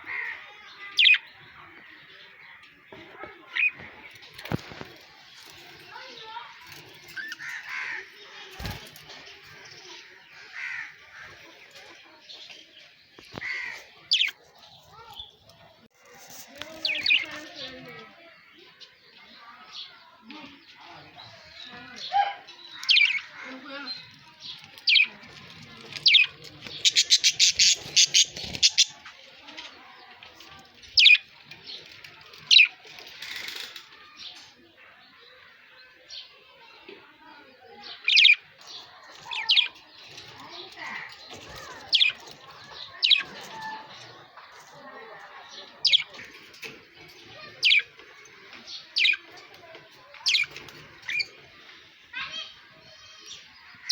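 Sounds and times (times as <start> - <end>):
birds calling: 0.0 - 53.9.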